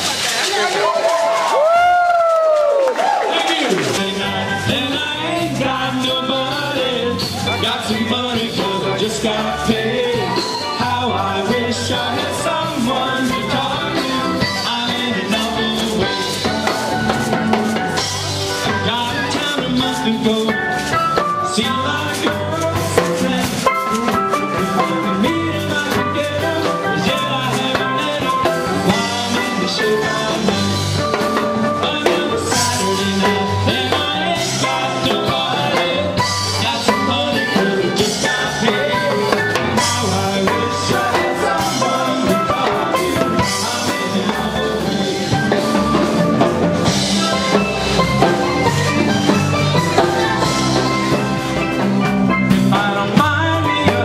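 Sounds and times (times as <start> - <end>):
upbeat music with drum beat: 0.0 - 54.0.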